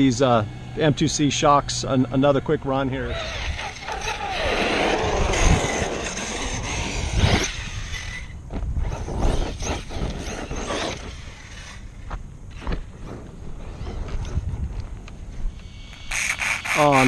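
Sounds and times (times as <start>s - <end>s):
rc truck motor and tyres: 0.0s - 17.0s.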